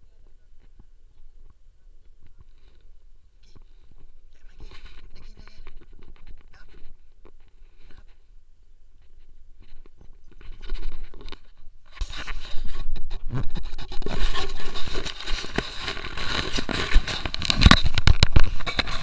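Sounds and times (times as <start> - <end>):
camera rubbing against fur: 0.6 - 8.3, 9.0 - 19.0.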